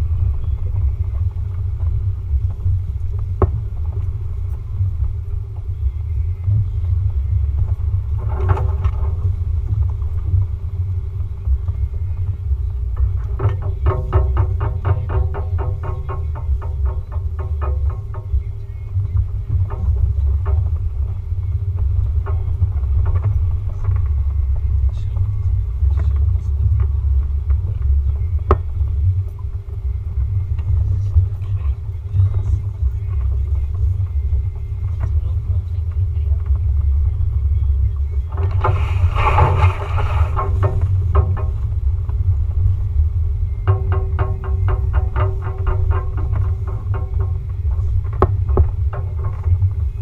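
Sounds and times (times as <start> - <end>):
engine and tyres rumbling: 0.0 - 50.0
wind on microphone: 0.0 - 50.0.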